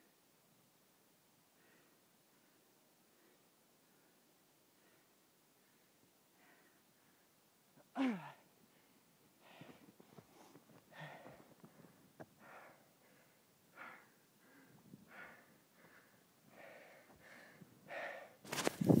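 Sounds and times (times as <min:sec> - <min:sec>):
man breathing hard: 0:01.5 - 0:18.4.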